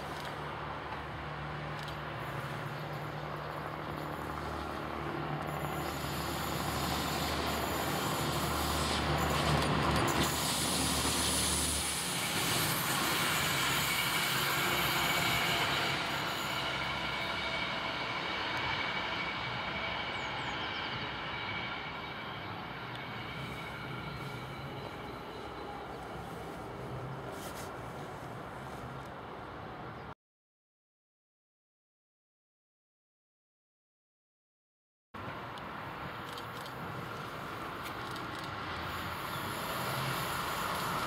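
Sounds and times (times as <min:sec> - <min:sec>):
diesel railcar engine hum: 0:00.0 - 0:30.1, 0:35.2 - 0:41.0
wheel and rail noise: 0:00.0 - 0:30.1, 0:35.2 - 0:41.0.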